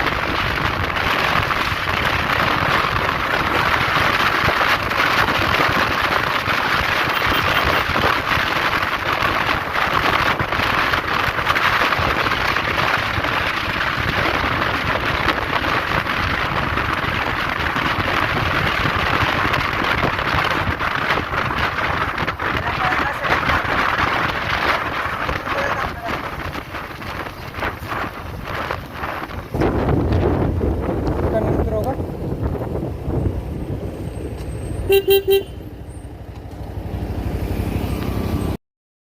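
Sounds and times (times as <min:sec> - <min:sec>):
wind and rain on microphone: 0:00.0 - 0:38.6.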